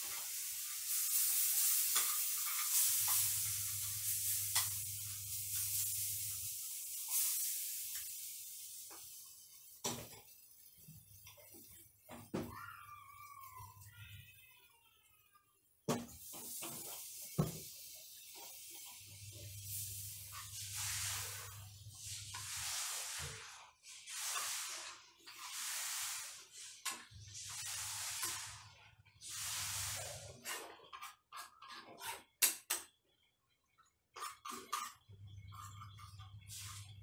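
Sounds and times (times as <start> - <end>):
water sizzling in hot frying pan: 0.0 - 14.3, 15.8 - 31.2, 34.2 - 37.0.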